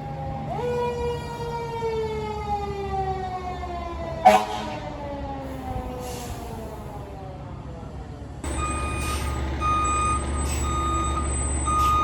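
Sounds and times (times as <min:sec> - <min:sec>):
fire truck siren: 0:00.0 - 0:12.0.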